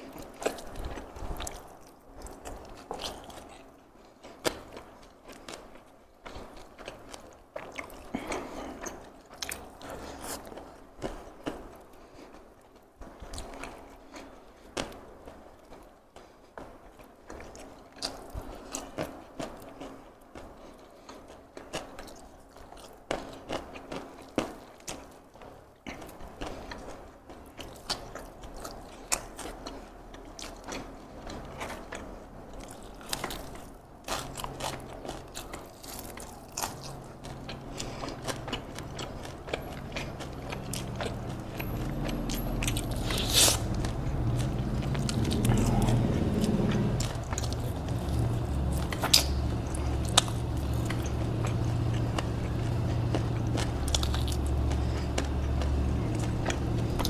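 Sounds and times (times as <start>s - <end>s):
chewing fried chicken: 0.0s - 57.0s.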